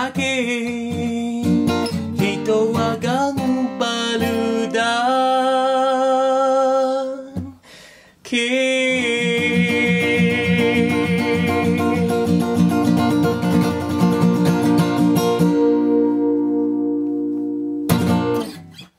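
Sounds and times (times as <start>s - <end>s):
acoustic guitar strummed and picked: 0.0s - 18.9s.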